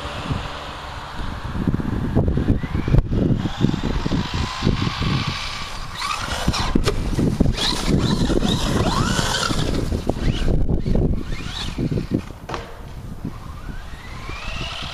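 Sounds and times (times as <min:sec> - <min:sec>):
electric motor whining: 0:00.0 - 0:14.9.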